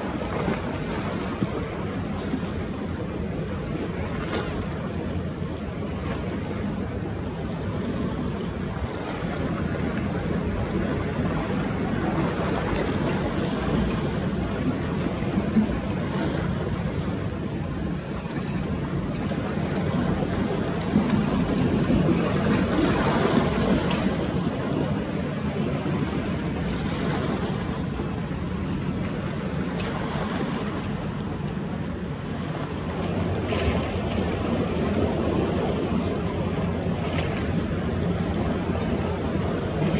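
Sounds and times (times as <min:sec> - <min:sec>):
sea waves: 0:00.0 - 0:39.9
surf washing: 0:00.0 - 0:39.9.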